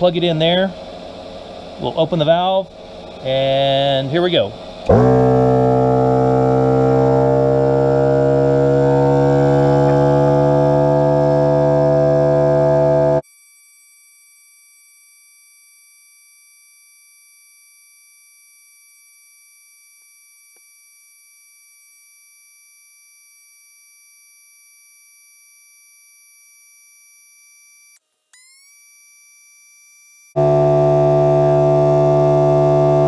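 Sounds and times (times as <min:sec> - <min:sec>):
electronic drone of pure tones: 0:00.0 - 0:33.0.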